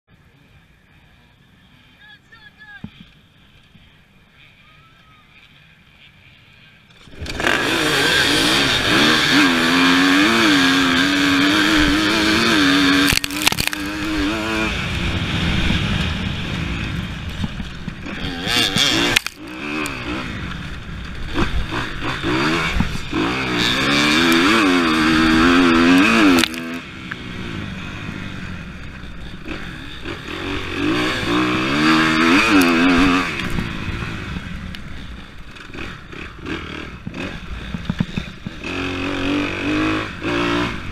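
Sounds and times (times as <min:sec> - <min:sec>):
dirt bike engines: 0:00.1 - 0:40.9
motorcycle engine revving: 0:03.8 - 0:40.9.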